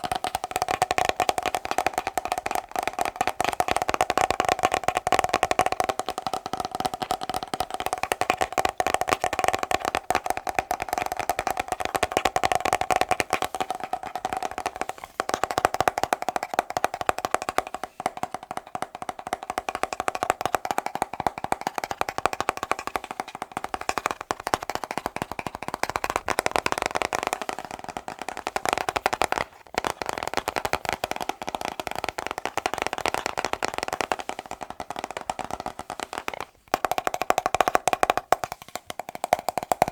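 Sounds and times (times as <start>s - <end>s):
fast tapping on hard object: 0.0s - 39.9s.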